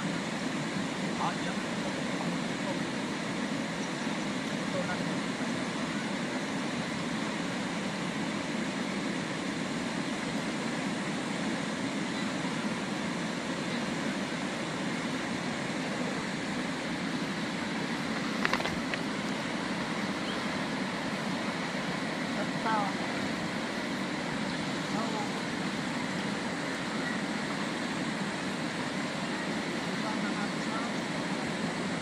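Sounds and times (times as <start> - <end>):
river flowing over stones: 0.0 - 32.0.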